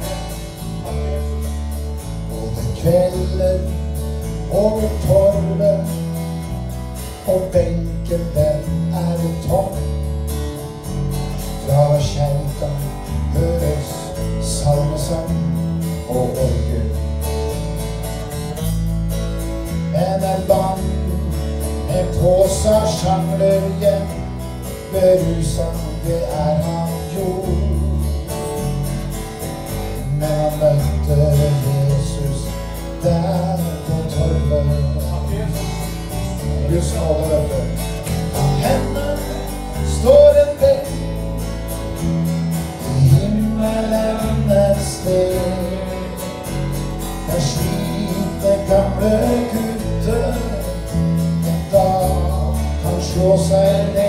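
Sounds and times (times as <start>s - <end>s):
man singing: 0.0s - 17.4s, 19.6s - 28.9s, 29.6s - 54.0s
acoustic guitar strumming: 0.0s - 54.0s.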